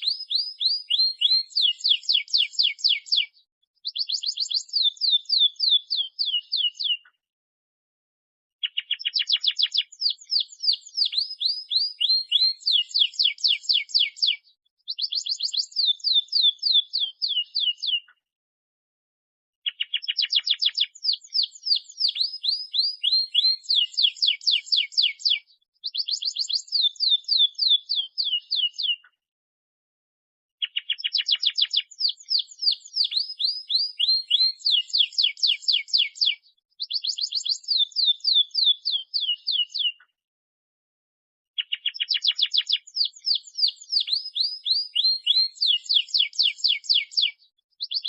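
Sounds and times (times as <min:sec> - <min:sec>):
canary singing trills: 0:00.0 - 0:07.1, 0:08.6 - 0:18.2, 0:19.6 - 0:29.1, 0:30.6 - 0:40.1, 0:41.6 - 0:48.0.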